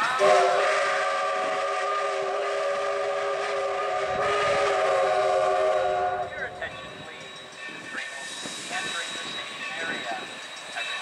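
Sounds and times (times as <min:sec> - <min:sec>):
steam locomotive chime whistle: 0:00.0 - 0:11.0.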